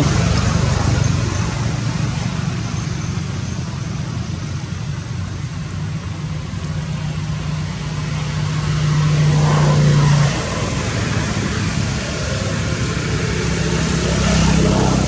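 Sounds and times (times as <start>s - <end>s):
constant rushing noise: 0.0s - 15.0s
vehicle engine humming: 0.0s - 15.0s.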